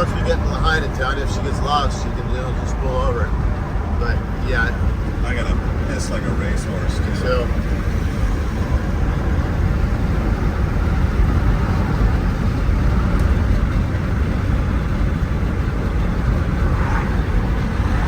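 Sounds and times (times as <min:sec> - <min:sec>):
truck road and engine rumble: 0:00.0 - 0:18.0.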